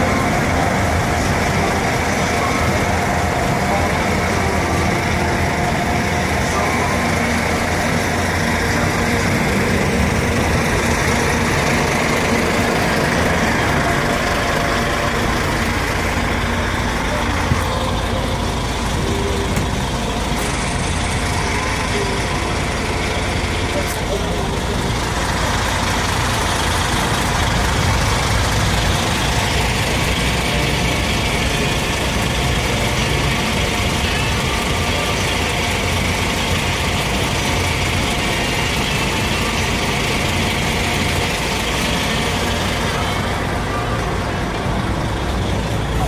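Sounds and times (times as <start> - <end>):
ship engines droning: 0.0 - 46.0.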